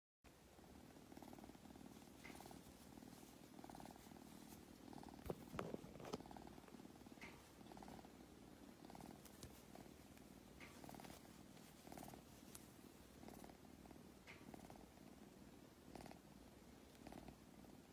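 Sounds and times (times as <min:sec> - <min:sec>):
kitten purring softly: 0:00.3 - 0:17.9.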